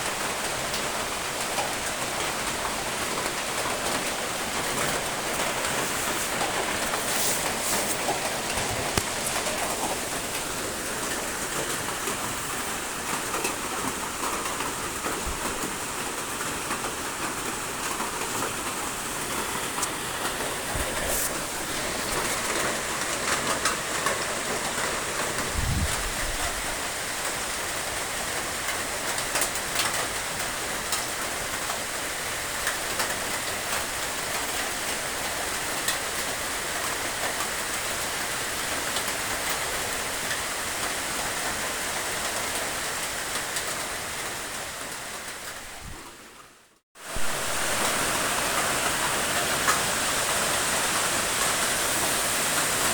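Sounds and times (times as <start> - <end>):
rain falling on a surface: 0.0 - 52.9.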